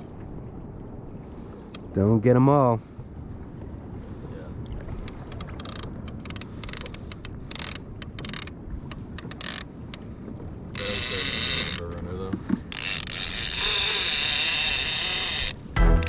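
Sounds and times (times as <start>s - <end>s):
wind rumble on microphone: 0.0s - 15.8s
water splashing against kayak: 0.0s - 16.0s.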